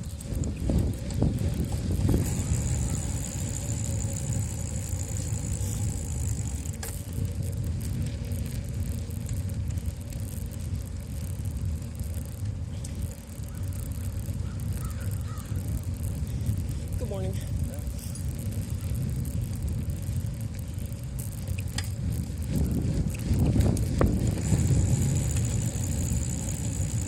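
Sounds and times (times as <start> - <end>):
thin high whine: 0.0 - 27.0
wind buffeting microphone: 0.0 - 27.0.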